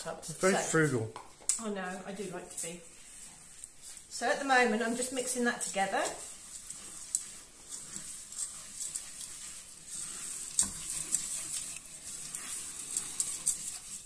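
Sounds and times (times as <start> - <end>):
spatula scraping saucepan: 1.7 - 14.0.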